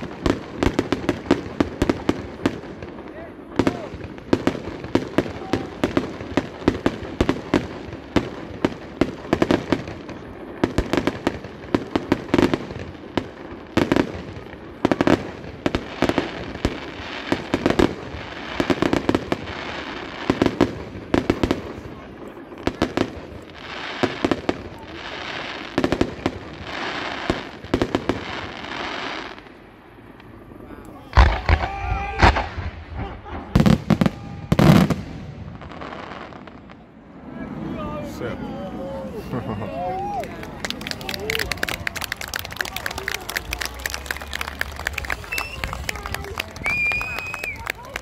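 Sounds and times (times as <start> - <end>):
crackling fireworks: 0.0 - 48.0.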